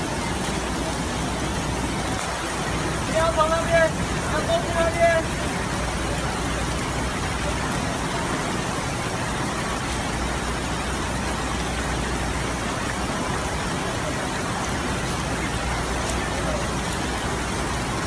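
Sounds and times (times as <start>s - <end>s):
floodwater rushing: 0.0s - 18.0s
heavy rain: 0.0s - 18.0s.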